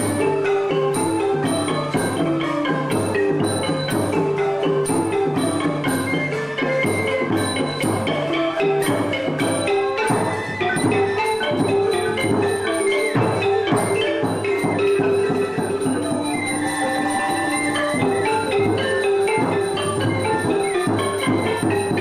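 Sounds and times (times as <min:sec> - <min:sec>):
drum strokes: 0:00.0 - 0:22.0
xylophone-like mallet notes: 0:00.0 - 0:22.0.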